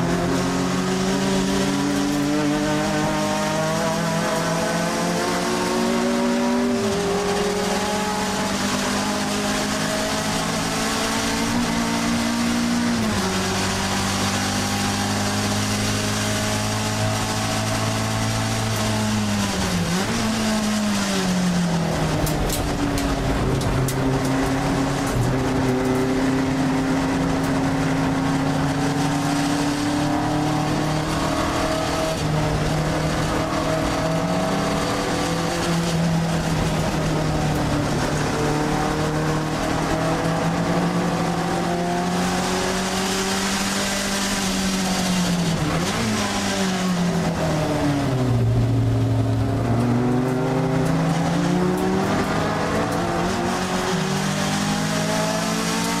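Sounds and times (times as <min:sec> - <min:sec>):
car engine revving through gears: 0:00.0 - 0:56.0.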